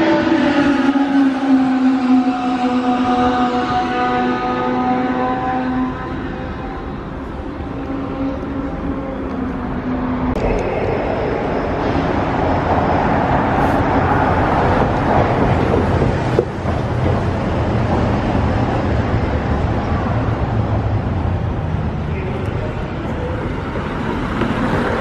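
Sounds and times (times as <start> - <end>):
cars engine and tyre noise: 0.0 - 25.0.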